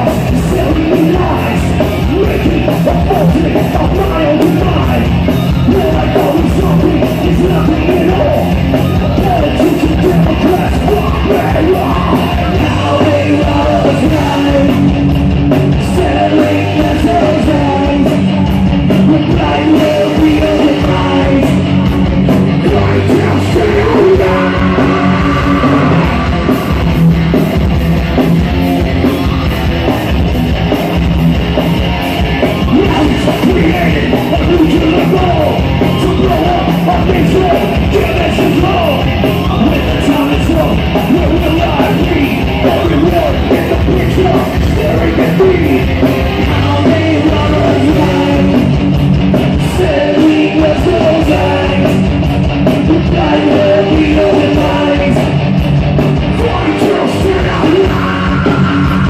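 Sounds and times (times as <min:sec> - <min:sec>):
person singing: 0:00.0 - 0:15.0, 0:15.8 - 0:21.9, 0:22.6 - 0:27.1, 0:32.2 - 0:48.7, 0:49.5 - 0:52.0, 0:52.8 - 0:55.3, 0:56.3 - 0:59.0
live rock band playing: 0:00.0 - 0:59.0.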